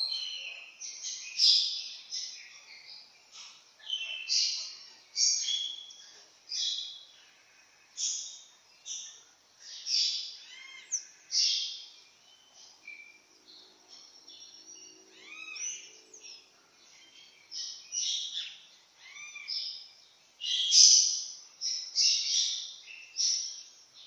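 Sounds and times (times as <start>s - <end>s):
birds chirping and whistling: 0.0s - 7.0s, 8.0s - 19.8s, 20.4s - 23.7s.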